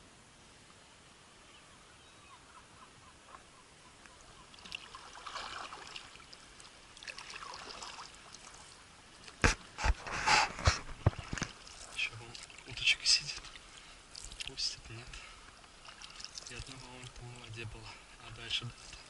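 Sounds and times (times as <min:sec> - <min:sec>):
faint steady hiss: 0:00.0 - 0:19.0
small waves lapping: 0:01.4 - 0:19.0.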